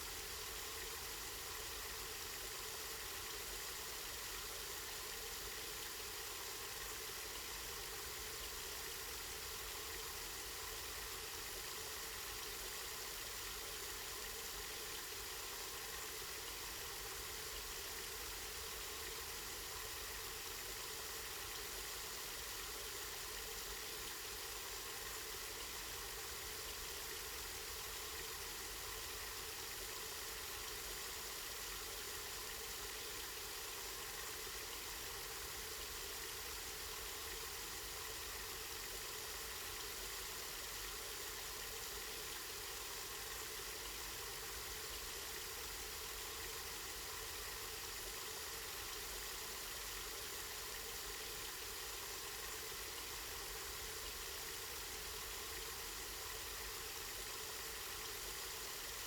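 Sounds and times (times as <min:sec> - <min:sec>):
spring water flowing: 0:09.2 - 0:59.0.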